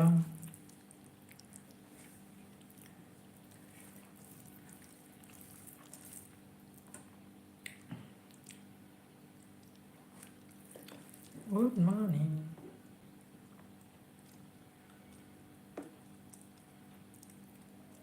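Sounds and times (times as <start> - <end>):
faint room hum: 0.0 - 18.0.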